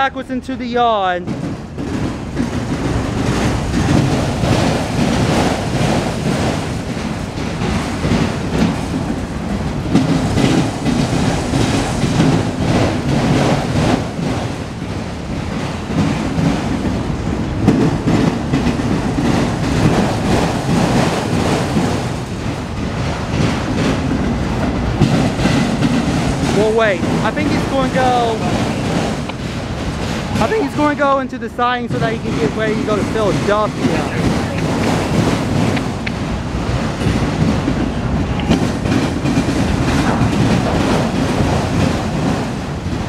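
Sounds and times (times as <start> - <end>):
freight train rumbling past: 0.0 - 43.0
wheels clacking over rail joints: 1.0 - 43.0.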